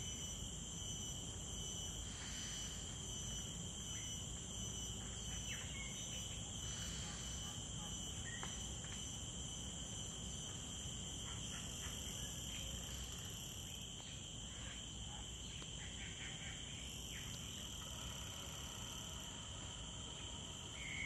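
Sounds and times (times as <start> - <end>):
shrill insect drone: 0.0 - 13.8, 16.2 - 21.0.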